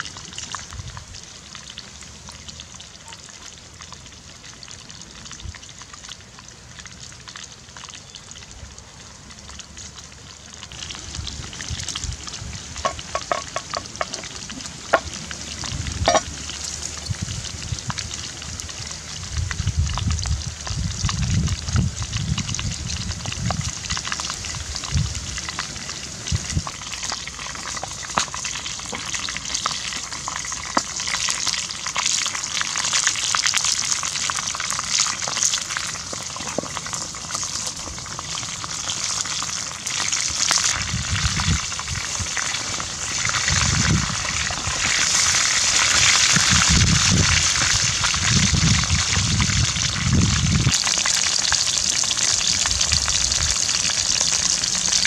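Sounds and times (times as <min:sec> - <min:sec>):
oil sizzling and crackling: 0:00.0 - 0:55.0.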